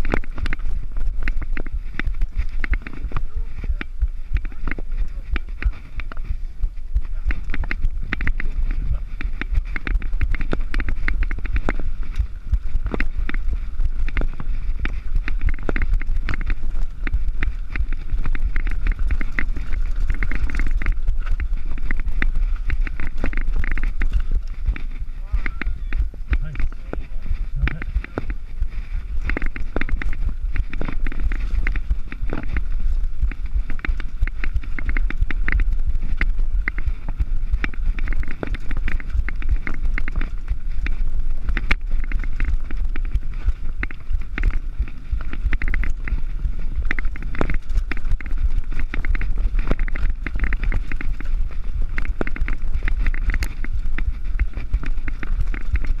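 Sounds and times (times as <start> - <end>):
bike tyres rattling on gravel: 0.0 - 56.0
wind on microphone: 0.0 - 56.0.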